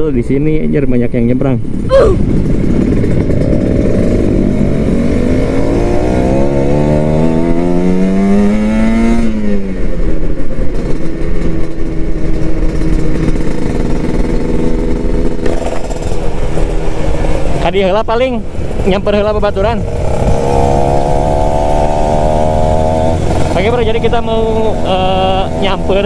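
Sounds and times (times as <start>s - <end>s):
motorcycle engine revving: 1.6s - 26.0s.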